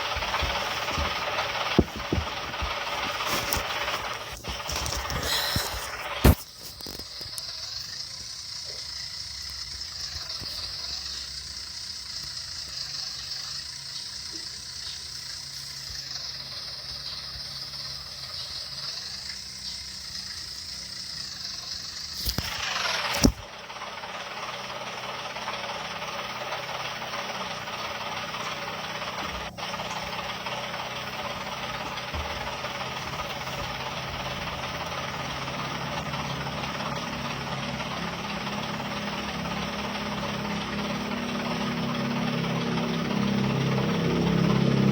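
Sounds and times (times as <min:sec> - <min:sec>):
cartoon truck engine running: 0:00.0 - 0:44.9.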